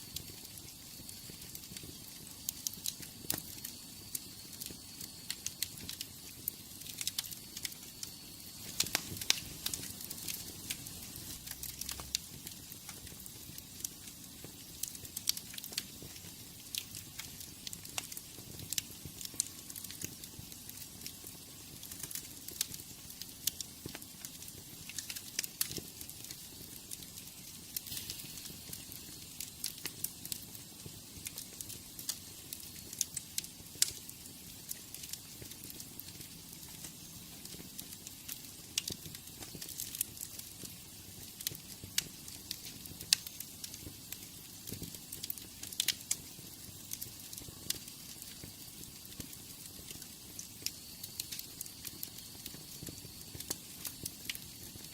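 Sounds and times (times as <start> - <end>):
hiss of flames: 0.0 - 54.9
wood fire crackling and popping: 0.0 - 54.9.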